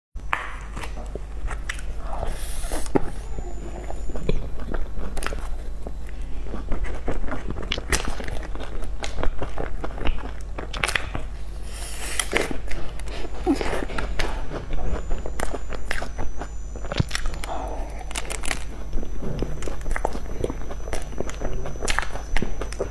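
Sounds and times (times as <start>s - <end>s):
steady low hum: 0.2s - 22.9s
crunching crisp pastry: 0.3s - 22.9s
soft wet chewing: 0.3s - 22.9s.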